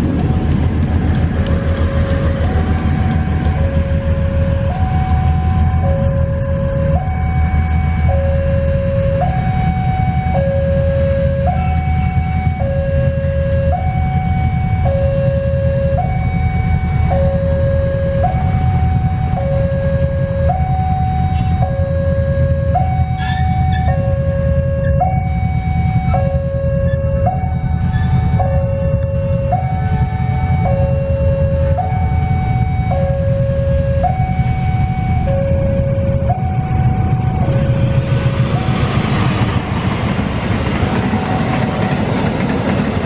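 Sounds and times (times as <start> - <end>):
low rumble of diesel trains: 0.0 - 43.0
two-tone electronic warning alarm: 1.5 - 43.0.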